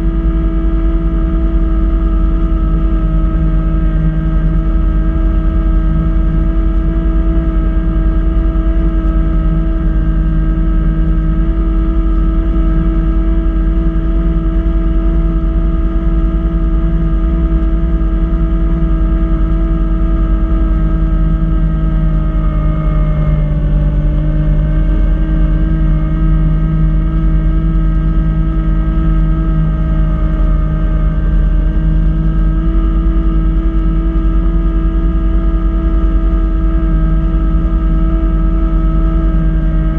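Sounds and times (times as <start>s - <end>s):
tractor diesel engine with snowblower: 0.0s - 39.9s.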